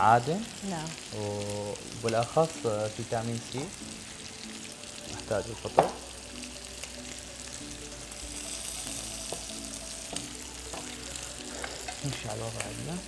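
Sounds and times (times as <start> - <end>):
faint background music: 0.0 - 13.0
meat sizzling in a frying pan: 0.0 - 13.0.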